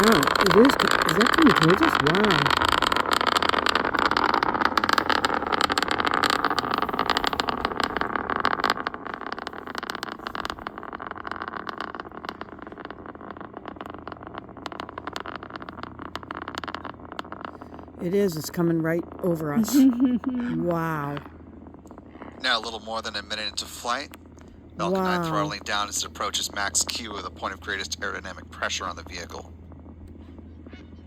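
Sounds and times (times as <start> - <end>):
rocket engines crackling roar: 0.0 - 31.0.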